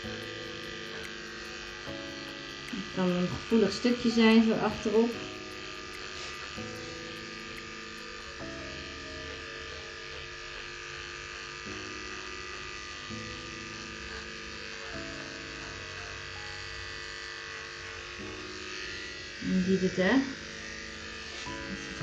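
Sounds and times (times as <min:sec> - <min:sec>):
electric clipper humming: 0:00.0 - 0:22.0.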